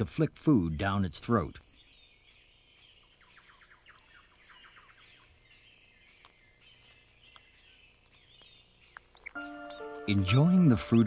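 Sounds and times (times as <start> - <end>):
hissy natural background: 0.0 - 11.0.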